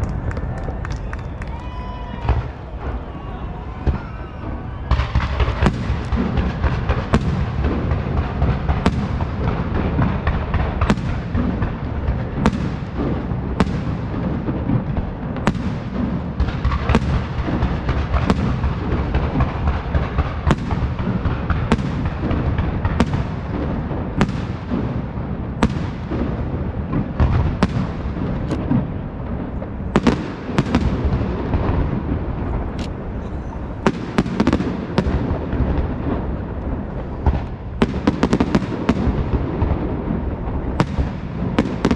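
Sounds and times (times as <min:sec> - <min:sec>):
firework shells exploding: 0:00.0 - 0:41.9
rumble and crackle of explosions: 0:00.0 - 0:41.9.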